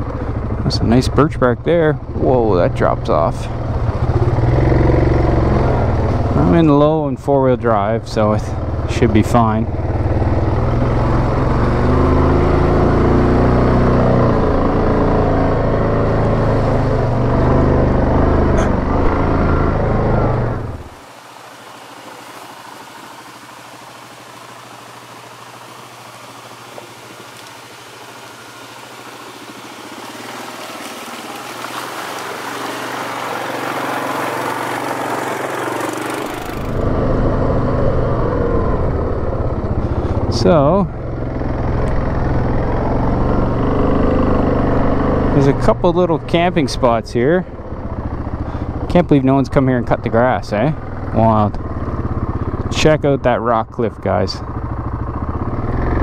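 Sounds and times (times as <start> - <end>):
engine running under load: 0.0 - 56.0.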